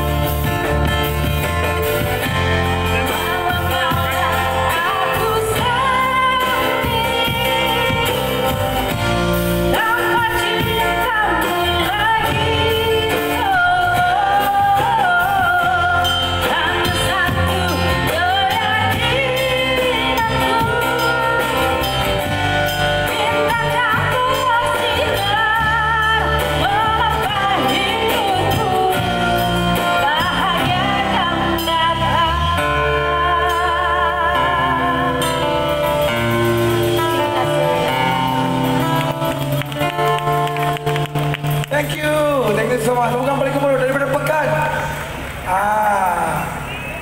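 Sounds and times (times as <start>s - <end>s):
acoustic guitar: 0.0s - 47.0s
drums: 0.0s - 47.0s
woman singing into microphone: 2.2s - 41.0s.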